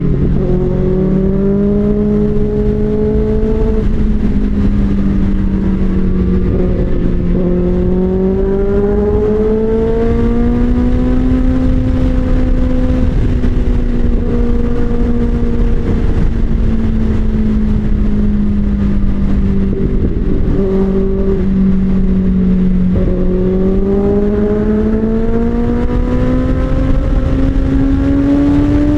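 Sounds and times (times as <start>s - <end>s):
motorcycle engine at speed: 0.0s - 28.9s
wind and road noise: 0.0s - 28.9s.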